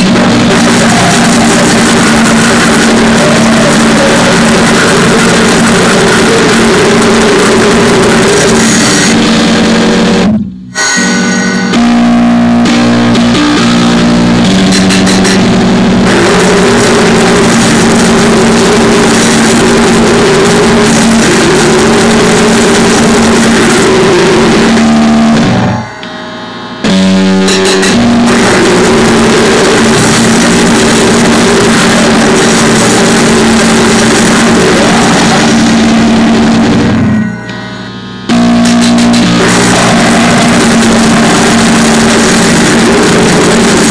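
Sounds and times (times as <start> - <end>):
distorted punk music: 0.0 - 43.9.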